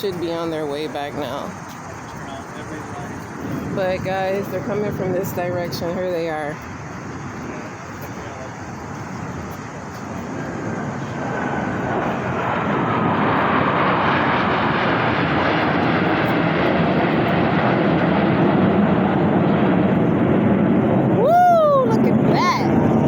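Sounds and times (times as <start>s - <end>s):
aircraft engine roar: 0.0s - 23.0s.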